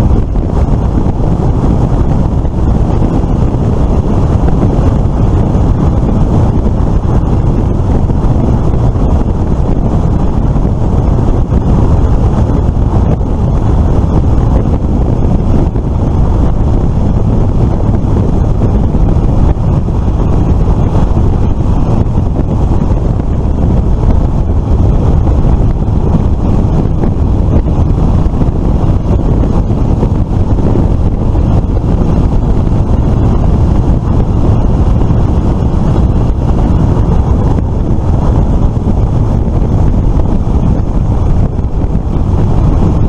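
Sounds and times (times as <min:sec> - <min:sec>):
motorbike engine rumble: 0:00.0 - 0:43.0
road rumble: 0:00.0 - 0:43.0
wind buffeting microphone: 0:00.0 - 0:43.0.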